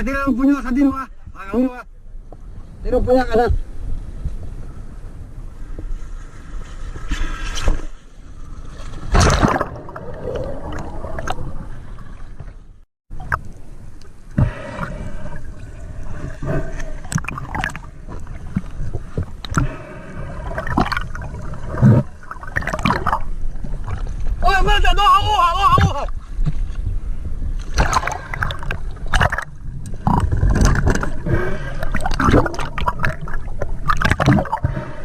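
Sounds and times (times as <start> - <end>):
water gurgling and sloshing: 3.6 - 35.0.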